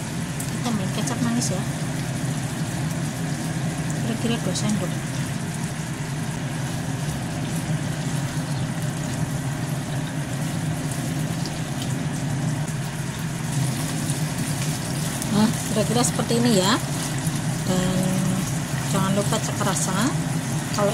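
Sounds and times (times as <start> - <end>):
steady low hum: 0.0 - 20.9
stew simmering in a wok: 0.0 - 20.9.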